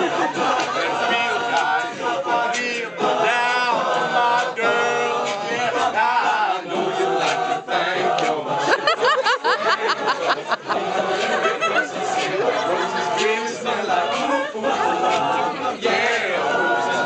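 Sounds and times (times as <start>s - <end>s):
men singing a cappella: 0.0s - 17.0s.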